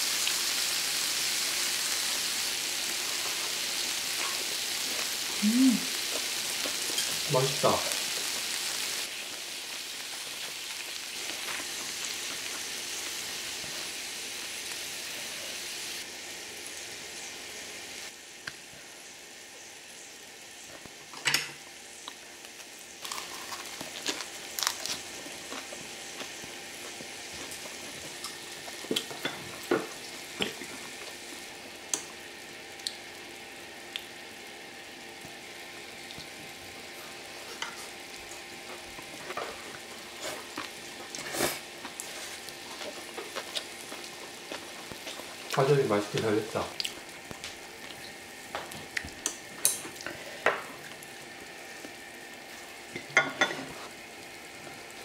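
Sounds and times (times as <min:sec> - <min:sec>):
meat sizzling on grill pan: 0:00.0 - 0:55.0.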